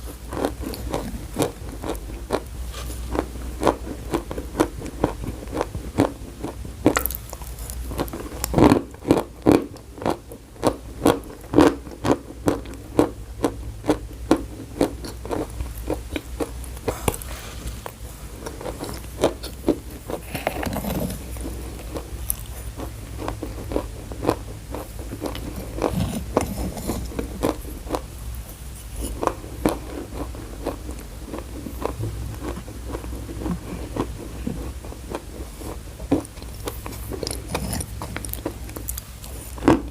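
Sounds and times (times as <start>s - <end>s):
chalk crunching and chewing: 0.0s - 39.9s
steady low hum: 0.0s - 39.9s.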